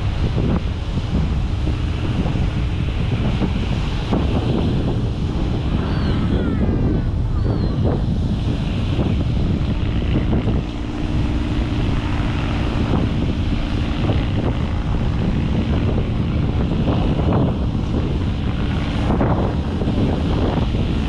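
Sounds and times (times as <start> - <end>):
low hum: 0.0 - 21.0
wind buffeting microphone: 0.0 - 21.0.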